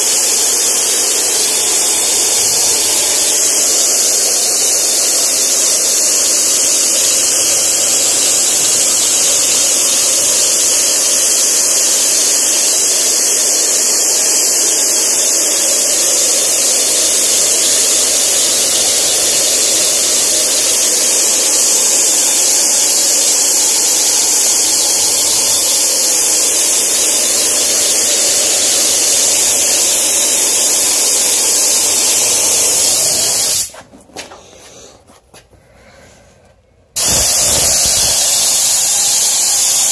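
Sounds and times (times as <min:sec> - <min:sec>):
spray gun hissing: 0:00.0 - 0:33.8, 0:37.0 - 0:39.9.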